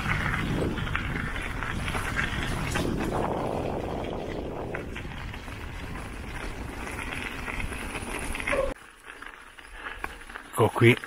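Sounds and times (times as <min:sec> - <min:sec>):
bike tyres rolling on gravel: 0:00.0 - 0:11.0.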